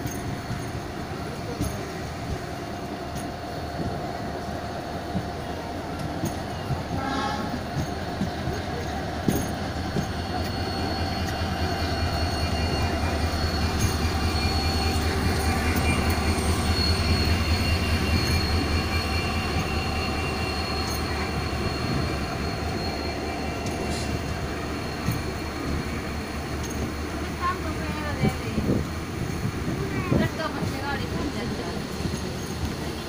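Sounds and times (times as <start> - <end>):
train wheels rumbling: 0.0 - 33.0
high wheel squeal: 6.2 - 33.0.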